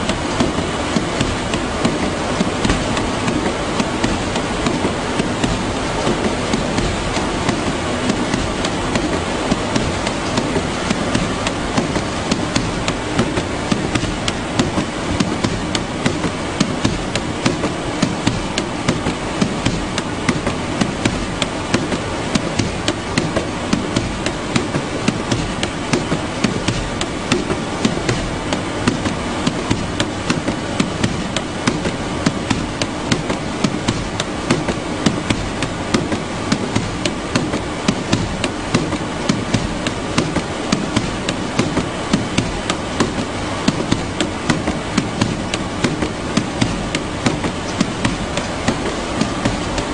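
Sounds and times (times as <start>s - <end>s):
conveyor mechanical noise: 0.0s - 49.9s
sharp clicks and knocks: 0.0s - 49.9s.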